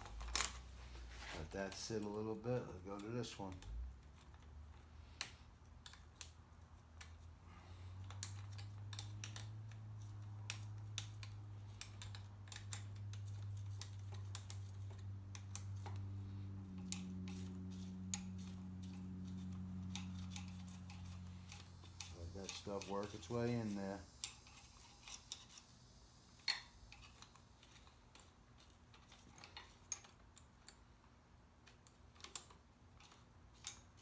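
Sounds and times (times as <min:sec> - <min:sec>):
low steady hum: 0:00.0 - 0:34.0
small wrenches clicking on metal: 0:01.6 - 0:07.2, 0:07.8 - 0:25.8, 0:26.4 - 0:31.0, 0:31.6 - 0:34.0.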